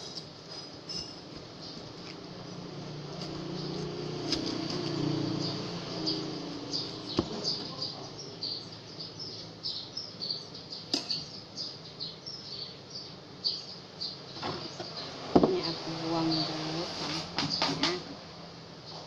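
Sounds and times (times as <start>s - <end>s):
small bird chirping: 0.9s - 17.7s.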